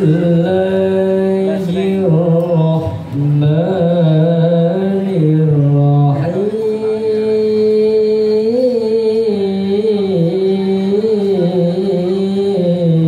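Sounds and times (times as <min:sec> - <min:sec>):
man chanting recitation over sound system: 0:00.0 - 0:13.0.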